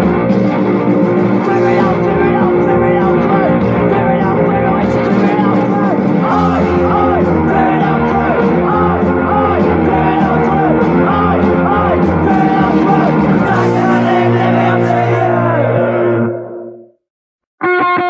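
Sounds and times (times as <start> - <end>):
person singing: 0.0 - 16.2
punk rock band playing: 0.0 - 16.6.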